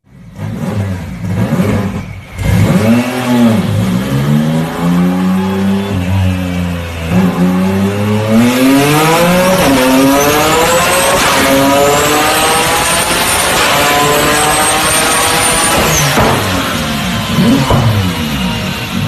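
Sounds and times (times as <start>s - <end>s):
car engine accelerating: 0.1s - 19.0s.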